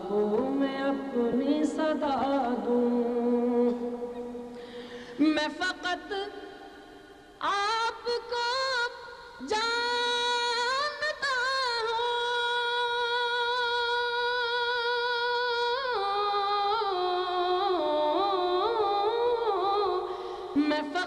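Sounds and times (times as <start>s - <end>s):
man singing devotional song: 0.0s - 4.5s, 5.1s - 6.8s, 7.4s - 21.0s.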